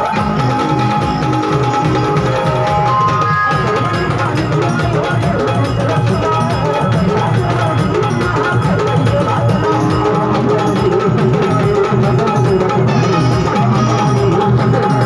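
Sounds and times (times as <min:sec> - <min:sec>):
fast dense drum rhythm: 0:00.0 - 0:15.0
folk dance music: 0:00.0 - 0:15.0.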